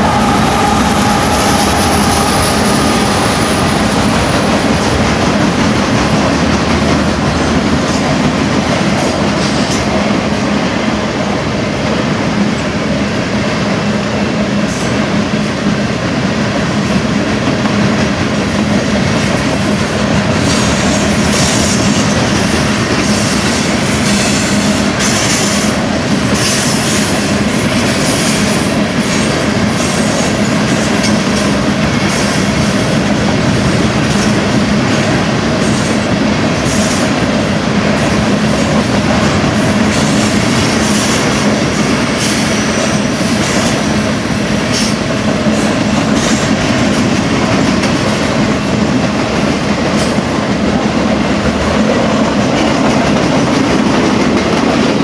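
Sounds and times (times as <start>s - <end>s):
train wheels running on rails: 0.0s - 55.0s.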